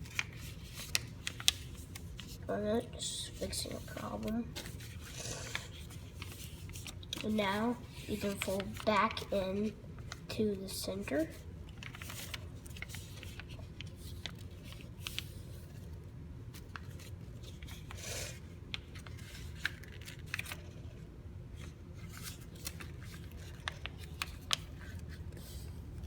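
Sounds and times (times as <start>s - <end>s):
paper being folded and creased: 0.0s - 15.9s, 16.5s - 21.0s, 21.6s - 26.0s.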